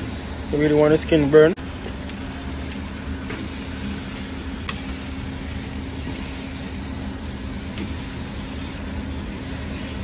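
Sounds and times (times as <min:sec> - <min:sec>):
chicken sizzling on a grill: 0:00.0 - 0:10.0
steady low hum: 0:00.0 - 0:10.0.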